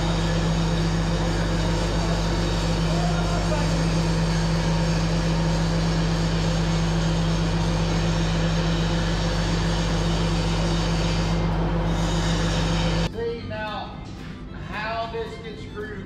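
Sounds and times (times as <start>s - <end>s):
steady machine drone: 0.0s - 16.0s.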